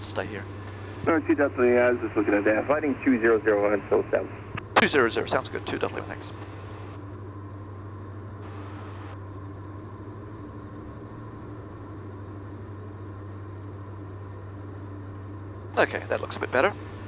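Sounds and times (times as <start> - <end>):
aircraft engines droning: 0.0 - 17.0.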